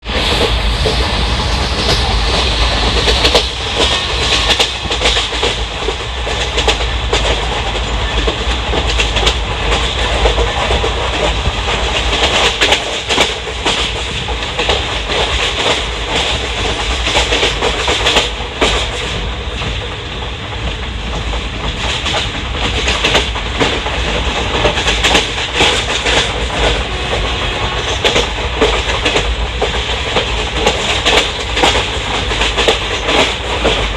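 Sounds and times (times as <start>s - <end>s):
train wheels rumbling on rails: 0.0s - 33.9s
wheels clicking over rail joints: 2.9s - 33.9s.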